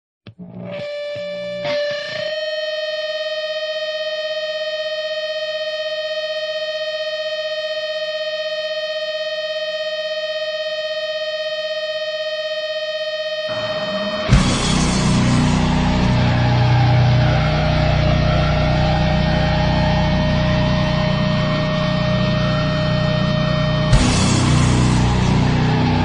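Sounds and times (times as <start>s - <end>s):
electric guitar feedback note: 0.3s - 26.0s.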